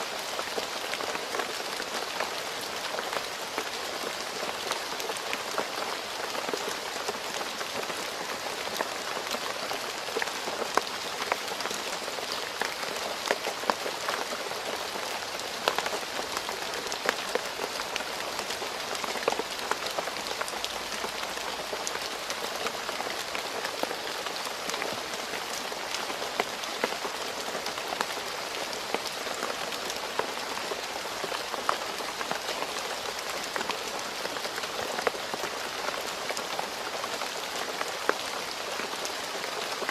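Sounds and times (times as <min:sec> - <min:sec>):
rain on a road: 0:00.0 - 0:39.9.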